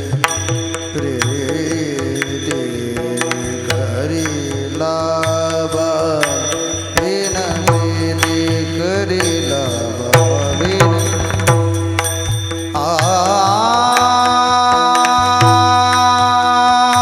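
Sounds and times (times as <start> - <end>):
sharp drum strokes: 0.0 - 16.2.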